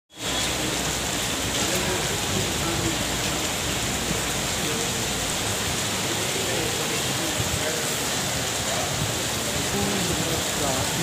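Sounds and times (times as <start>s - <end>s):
heavy rain on wet ground: 0.1s - 11.0s.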